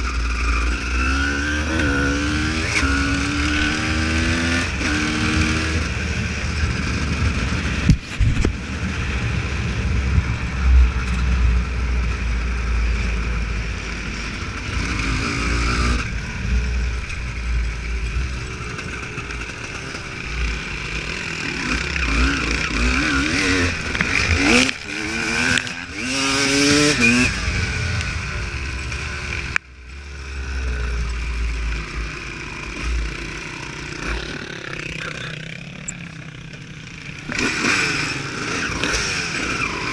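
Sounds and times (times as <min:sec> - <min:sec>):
two-stroke dirt bike revving: 0:00.0 - 0:39.9.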